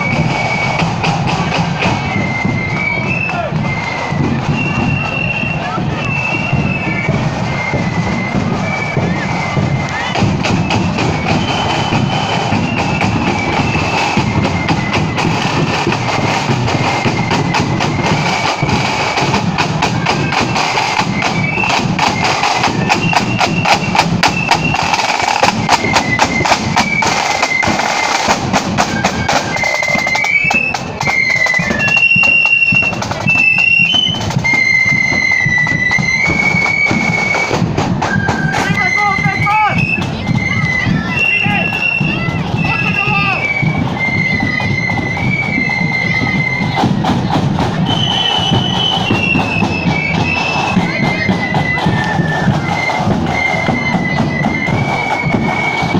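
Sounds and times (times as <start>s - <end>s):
high flute melody: 0.0s - 55.9s
rapid snare drumming: 0.0s - 55.9s.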